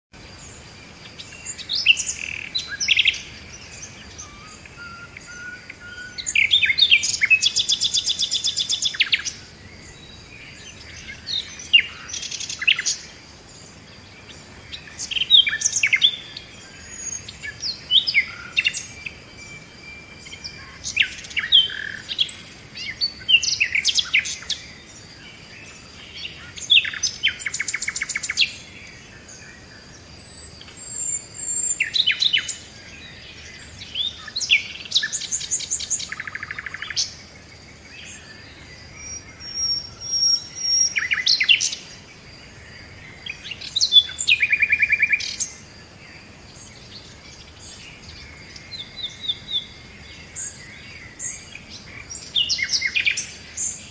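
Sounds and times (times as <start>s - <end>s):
birds chirping and whistling: 1.0s - 29.4s, 30.0s - 42.0s, 42.6s - 53.9s.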